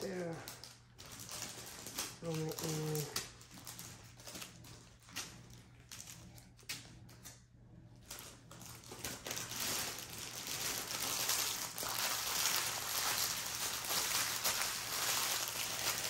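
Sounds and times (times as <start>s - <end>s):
plastic bag crinkling: 0.0s - 6.6s, 8.0s - 16.0s.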